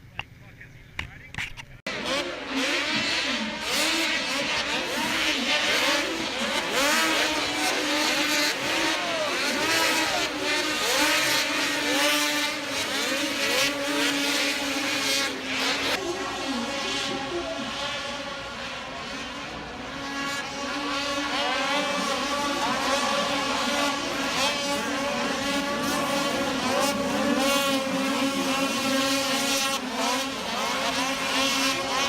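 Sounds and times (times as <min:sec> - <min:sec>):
snowmobile engines revving: 0:00.0 - 0:32.0
steady engine drone: 0:00.0 - 0:32.0.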